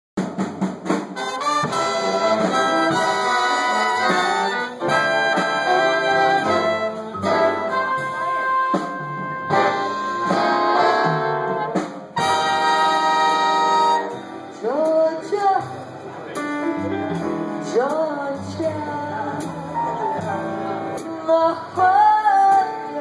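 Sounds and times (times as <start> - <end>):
jazz big band playing: 0.2 - 23.0.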